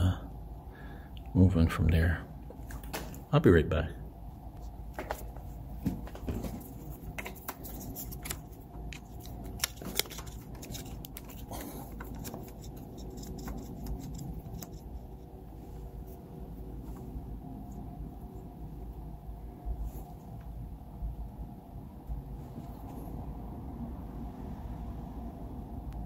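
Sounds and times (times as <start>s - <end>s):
low hum: 3.9s - 26.0s.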